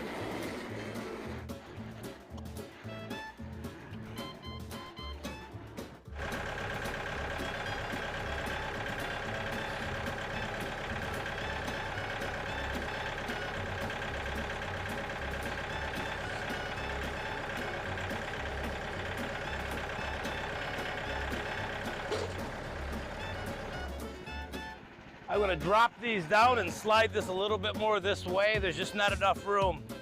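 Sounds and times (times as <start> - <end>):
bandsaw mill sawing a log: 0.0 - 5.1, 6.1 - 29.1.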